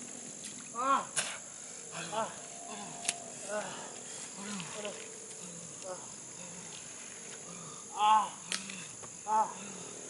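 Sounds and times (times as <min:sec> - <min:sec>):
crickets chirring: 0:00.0 - 0:10.0
faint low calls: 0:00.6 - 0:10.0.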